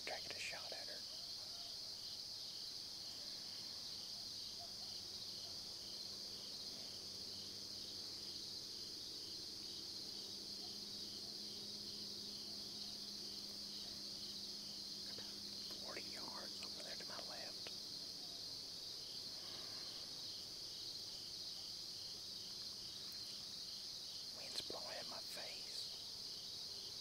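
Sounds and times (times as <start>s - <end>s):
insects droning: 0.0s - 27.0s
pulsing insect trill: 0.0s - 27.0s.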